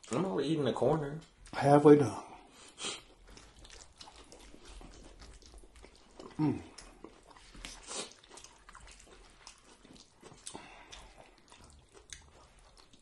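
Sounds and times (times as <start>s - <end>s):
wet chewing and lip smacking: 0.0s - 1.6s, 2.4s - 13.0s.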